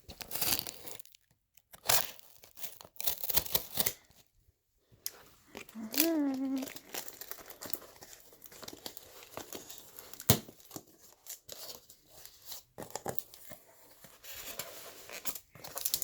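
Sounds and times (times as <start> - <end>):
packaging crinkling and tearing: 0.1 - 4.1, 5.5 - 16.0.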